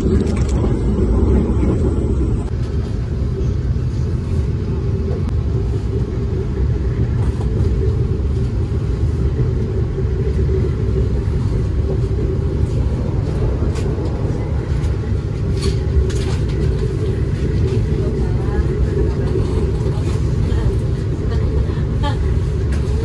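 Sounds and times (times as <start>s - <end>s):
train rumbling from inside: 0.0s - 23.0s.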